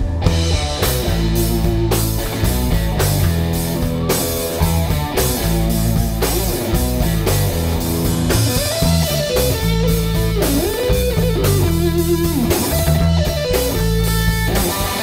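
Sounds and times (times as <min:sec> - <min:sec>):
bass guitar: 0:00.0 - 0:15.0
drum kit: 0:00.0 - 0:15.0
electric guitars: 0:00.0 - 0:15.0
sliding lead guitar melody: 0:00.0 - 0:15.0.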